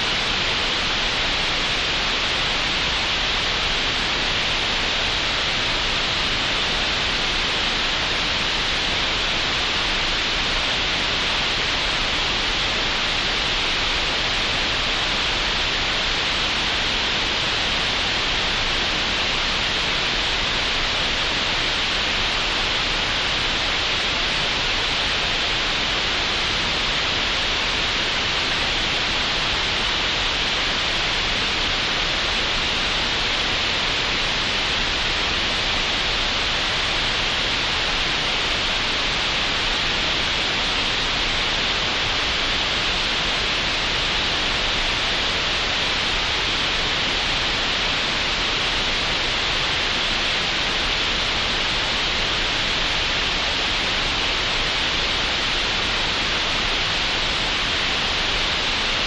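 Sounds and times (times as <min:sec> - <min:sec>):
steady green noise hiss: 0:00.0 - 0:59.0.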